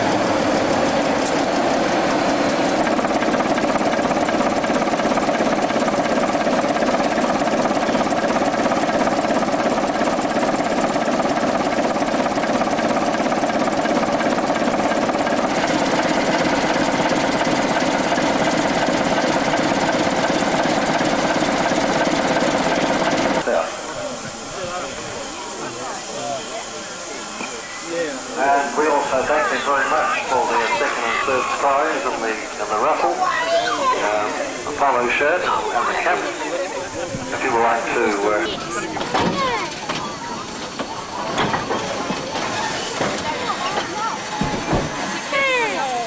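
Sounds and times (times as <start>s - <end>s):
steam locomotive clattering: 0.0s - 46.0s.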